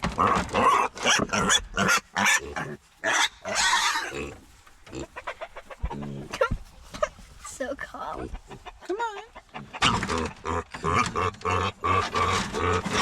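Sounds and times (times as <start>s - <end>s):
piglets squealing and grunting: 0.0s - 7.1s, 8.2s - 13.0s.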